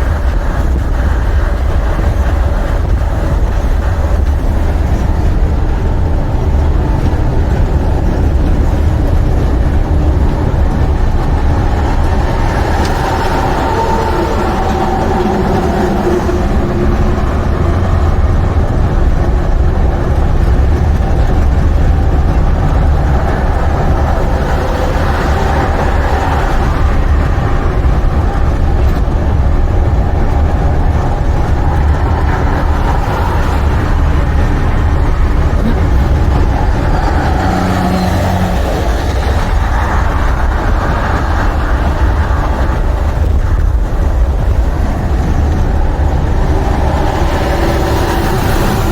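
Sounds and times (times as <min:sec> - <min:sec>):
truck diesel engine and road noise: 0:00.0 - 0:48.9.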